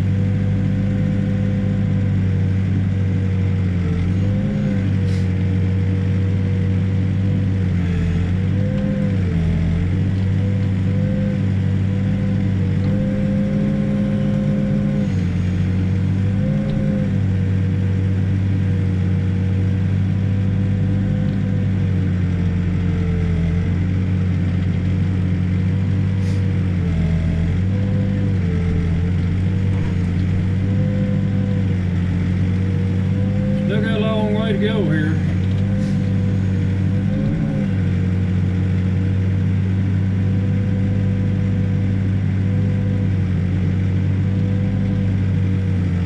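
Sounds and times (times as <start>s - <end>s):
backhoe diesel engine running: 0.0s - 46.0s.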